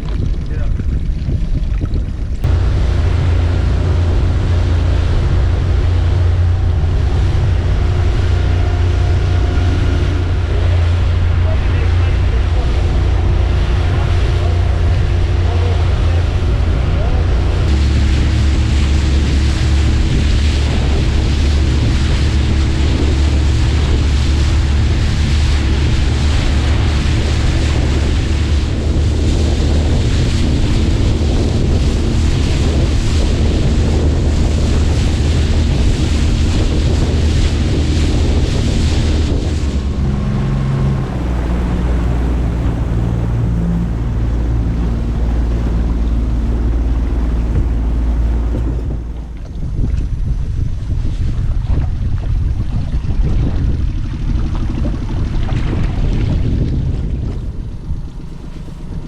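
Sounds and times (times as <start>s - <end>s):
outboard motor running: 0.0s - 59.0s
water rushing past hull: 0.0s - 59.0s
wind buffeting microphone: 0.0s - 59.0s.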